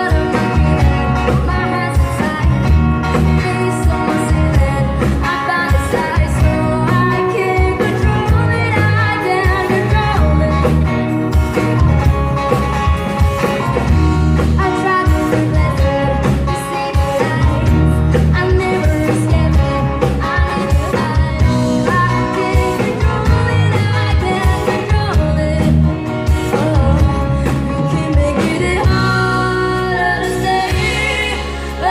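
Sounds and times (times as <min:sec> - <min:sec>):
live rock band with singer: 0:00.0 - 0:31.9.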